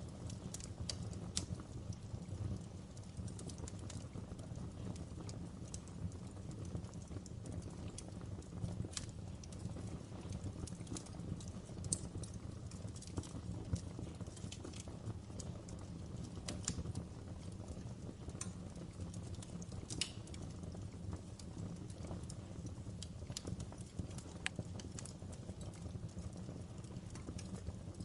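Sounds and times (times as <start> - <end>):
fire popping and snapping: 0.0 - 28.0
low rumble of burning: 0.0 - 28.0.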